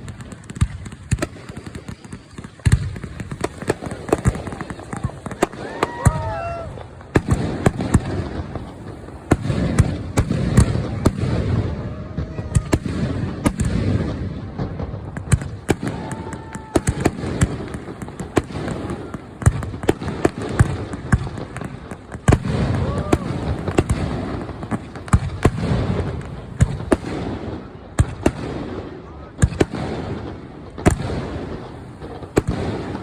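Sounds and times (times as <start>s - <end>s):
fireworks booming and cracking: 0.0s - 33.0s.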